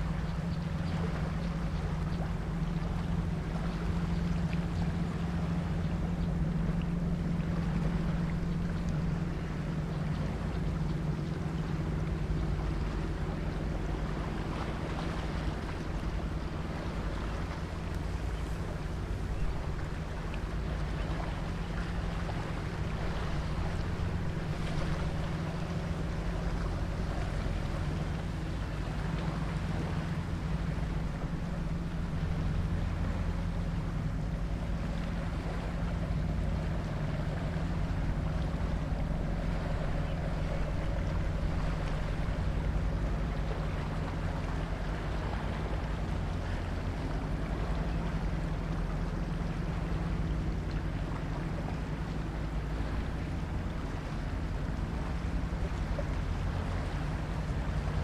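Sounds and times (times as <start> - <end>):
boat engine droning: 0.0 - 58.0
wind and water hiss: 0.0 - 58.0.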